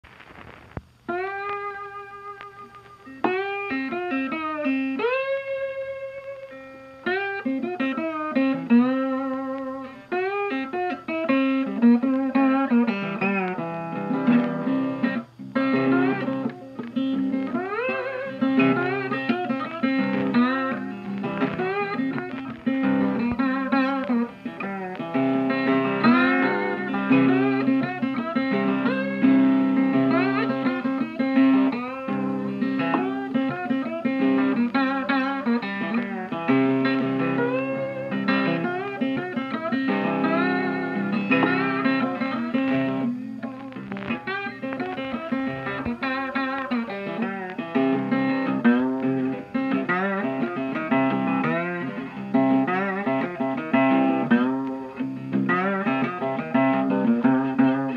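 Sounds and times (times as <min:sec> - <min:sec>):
country rock guitar music: 0:00.0 - 0:57.9.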